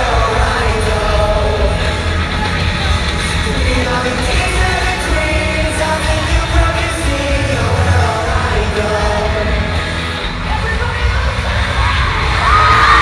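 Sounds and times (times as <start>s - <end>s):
lead vocal singing: 0.0s - 13.0s
live pop-punk band: 0.0s - 13.0s.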